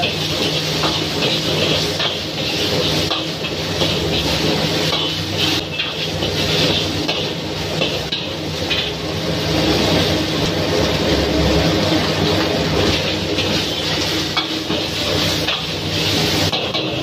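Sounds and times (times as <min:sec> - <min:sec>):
ladle scraping and knocking wok: 0:00.0 - 0:17.0
noodles sizzling in wok: 0:00.0 - 0:17.0.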